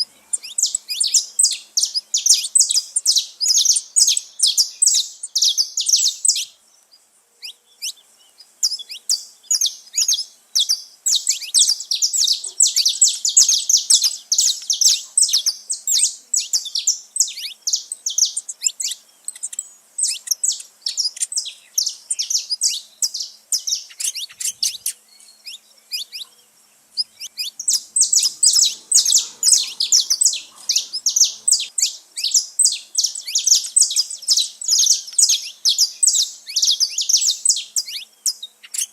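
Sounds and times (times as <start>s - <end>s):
finches singing high chirps: 0.0s - 38.9s.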